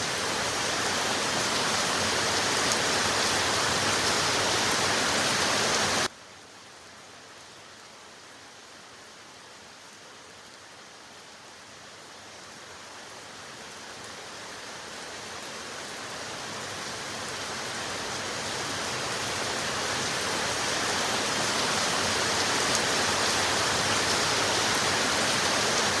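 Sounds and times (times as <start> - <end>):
steady rainfall: 0.0 - 26.0.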